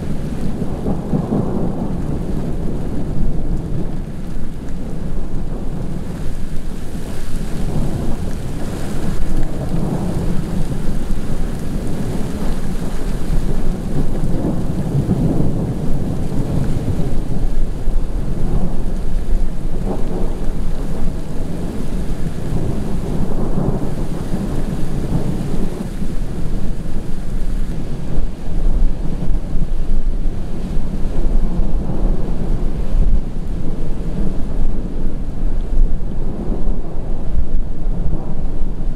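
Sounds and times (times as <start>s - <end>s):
rain hiss: 0.0s - 38.9s
thunder rumbling: 0.0s - 38.9s.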